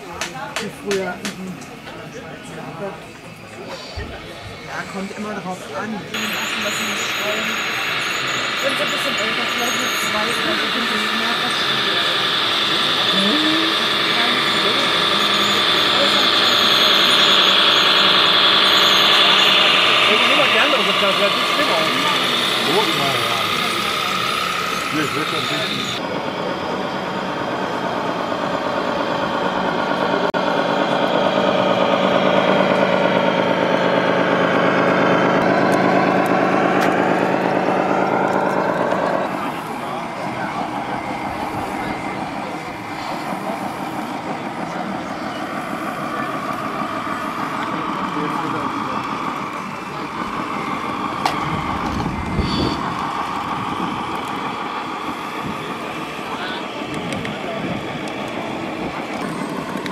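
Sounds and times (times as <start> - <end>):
simulated diesel truck engine: 0.0 - 59.9.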